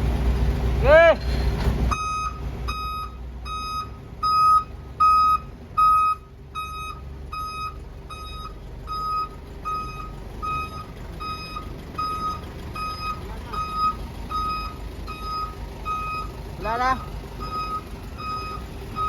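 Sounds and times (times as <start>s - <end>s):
truck engine rumble: 0.0s - 19.0s
truck reversing alarm beeping: 1.9s - 19.0s.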